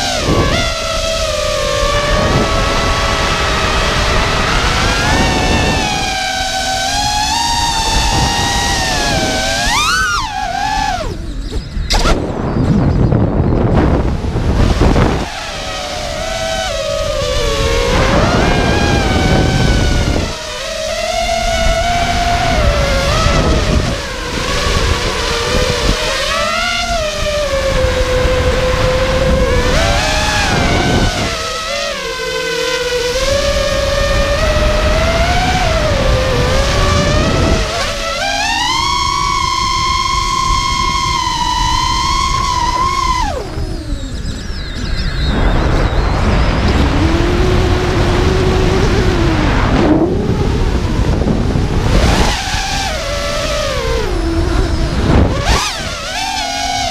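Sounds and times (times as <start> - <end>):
drone motors whining: 0.0 - 56.9
wind on microphone: 0.0 - 56.9.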